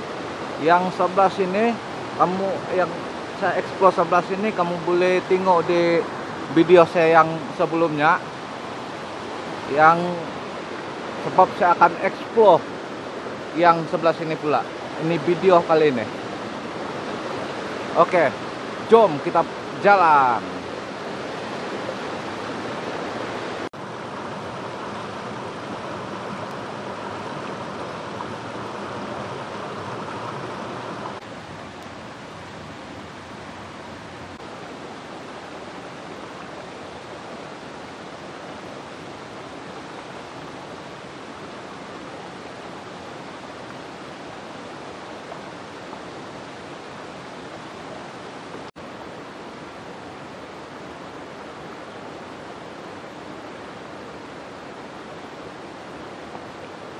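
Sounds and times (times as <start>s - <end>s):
stream rushing over boulders: 0.0s - 56.9s.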